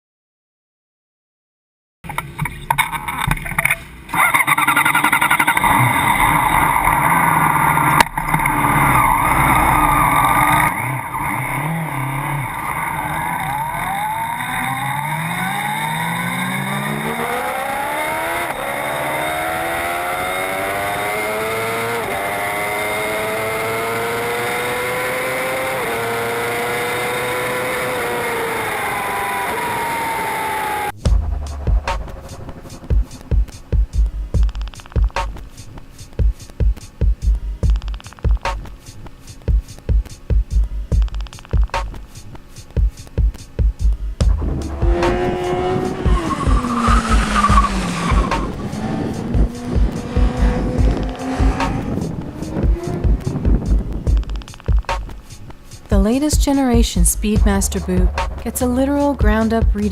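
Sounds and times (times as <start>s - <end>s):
tyre noise: 2.1s - 32.3s, 32.9s - 59.9s
racing engine accelerating: 2.7s - 35.5s, 44.1s - 55.2s, 55.8s - 59.9s.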